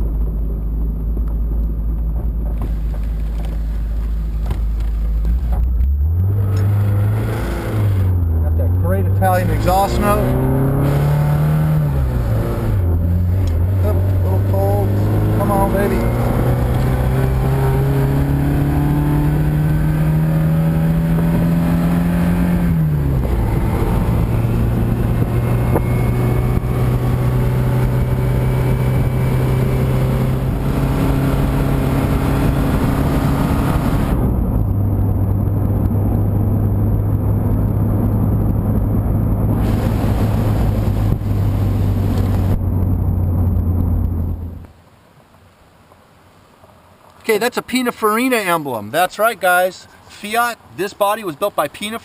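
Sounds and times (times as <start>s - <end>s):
car engine accelerating: 0.0s - 44.7s.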